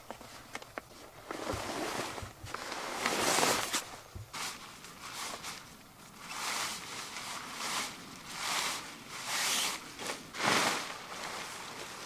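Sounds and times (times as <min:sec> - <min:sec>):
tarp rustling and swishing: 0:01.0 - 0:12.0.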